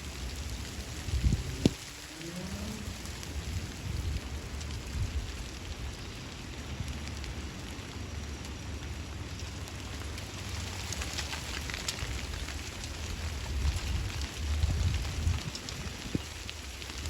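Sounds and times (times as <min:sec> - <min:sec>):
hailstones ticking: 0:00.0 - 0:17.0.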